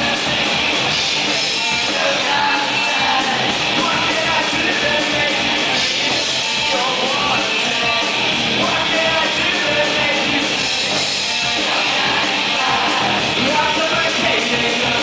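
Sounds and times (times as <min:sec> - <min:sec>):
drums: 0:00.0 - 0:15.0
electric bass: 0:00.0 - 0:15.0
electric guitar: 0:00.0 - 0:15.0
man singing into microphone: 0:01.6 - 0:15.0.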